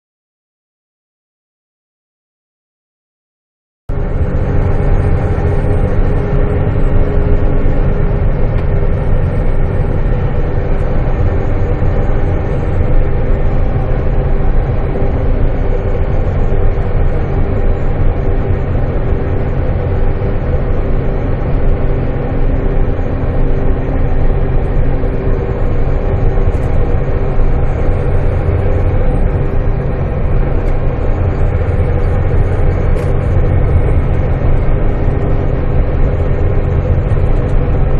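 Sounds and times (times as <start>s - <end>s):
diesel truck engine droning: 3.9s - 37.9s.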